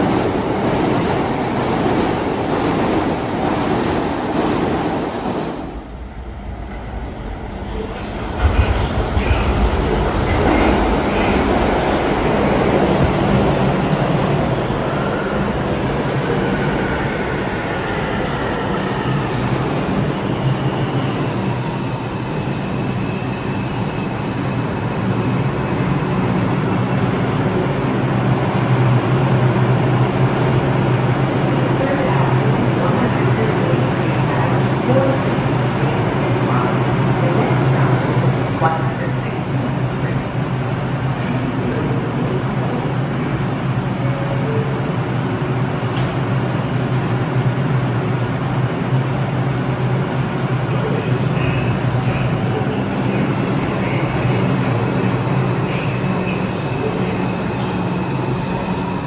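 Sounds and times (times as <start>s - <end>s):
subway train rumbling to a stop: 0.0s - 59.0s.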